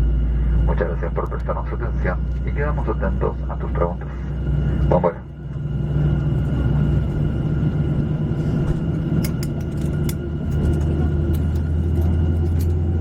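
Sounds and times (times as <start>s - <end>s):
airliner cabin rumble and hum: 0.0s - 13.0s
thin steady whine: 0.0s - 13.0s.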